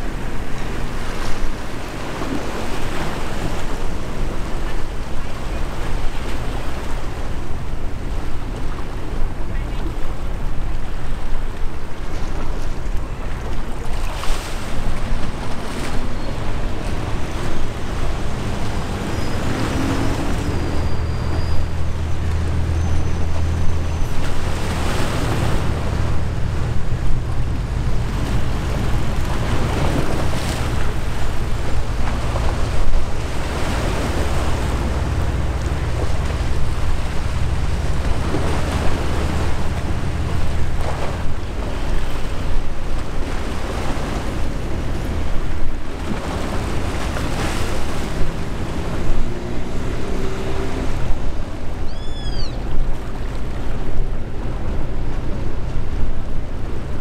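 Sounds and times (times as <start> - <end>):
ship engine drone: 0.0 - 57.0.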